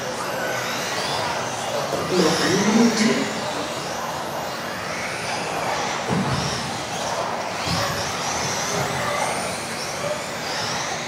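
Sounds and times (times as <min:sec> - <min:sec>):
rc car motors whining: 0:00.0 - 0:11.0.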